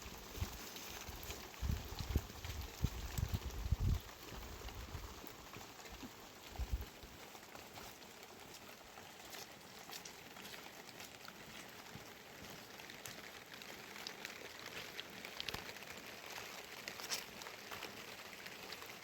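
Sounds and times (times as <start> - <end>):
rain hiss: 0.0 - 19.0
raindrops ticking: 0.0 - 19.0.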